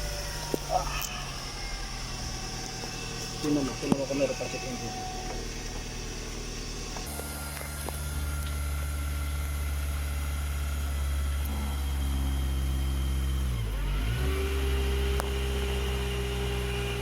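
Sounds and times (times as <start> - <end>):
car engine idling: 0.0 - 17.0
steady higher hum: 0.0 - 17.0.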